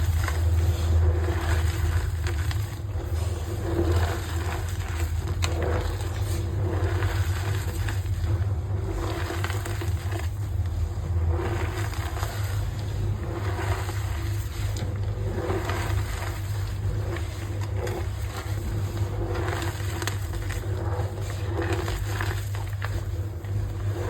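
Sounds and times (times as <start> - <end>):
chalk crunching by hand: 0.0 - 24.0
low hum: 0.0 - 24.0.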